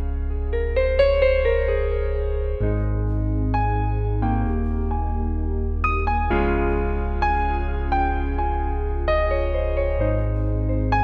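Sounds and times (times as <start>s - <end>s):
soft slow new-age music: 0.0s - 11.0s.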